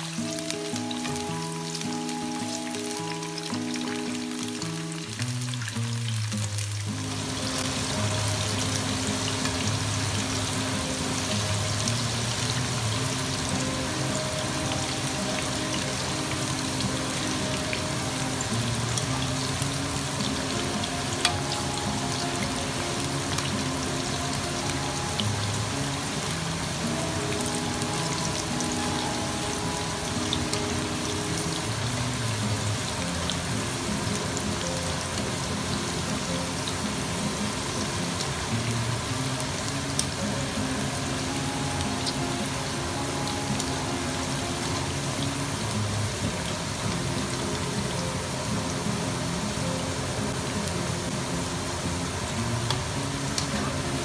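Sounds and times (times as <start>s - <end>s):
background music with low notes: 0.0s - 54.0s
beans sizzling in hot oil: 0.0s - 54.0s.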